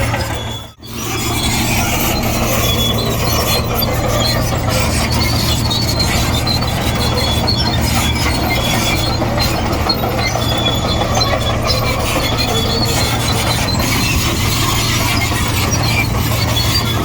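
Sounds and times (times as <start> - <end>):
diesel engine running: 0.0 - 17.0
steel tracks squealing and clinking: 0.0 - 17.0.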